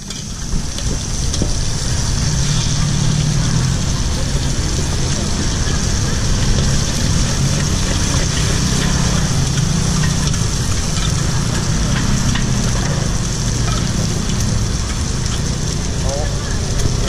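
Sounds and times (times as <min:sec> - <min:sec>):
noodles sizzling in a wok: 0:00.0 - 0:17.0
steady low rumble: 0:00.0 - 0:17.0.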